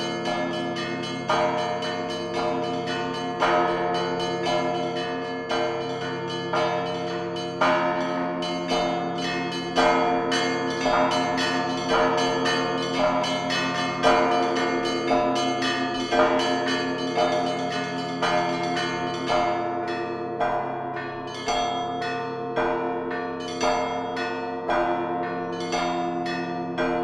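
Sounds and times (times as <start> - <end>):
church bells ringing a peal: 0.0 - 27.0
hum of large bells: 0.0 - 27.0.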